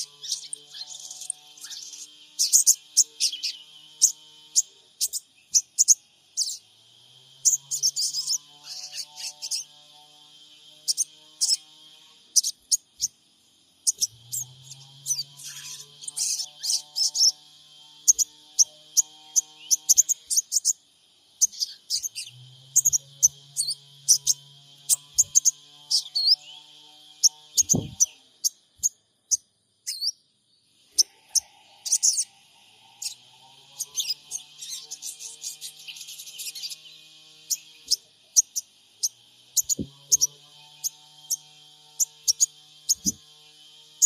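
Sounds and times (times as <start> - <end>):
birds twittering chirps: 0.0 - 44.0.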